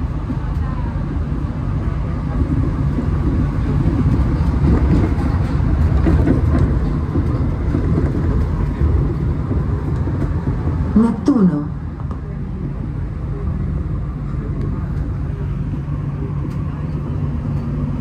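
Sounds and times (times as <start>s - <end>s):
metro train interior rumble: 0.0s - 18.0s.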